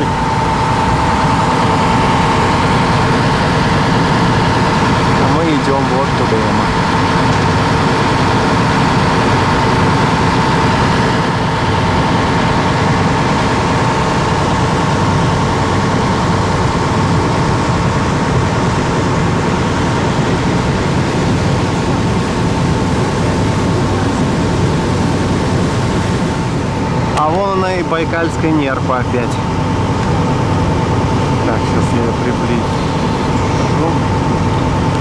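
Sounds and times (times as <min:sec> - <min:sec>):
boat engine droning: 0:00.0 - 0:35.0
high whine: 0:00.0 - 0:35.0
rushing wind: 0:00.0 - 0:35.0
water noise: 0:00.0 - 0:35.0.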